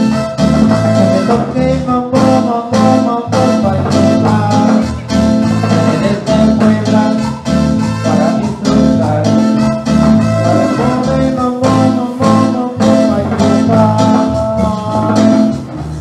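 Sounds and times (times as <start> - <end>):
live band playing dance music: 0.0 - 16.0.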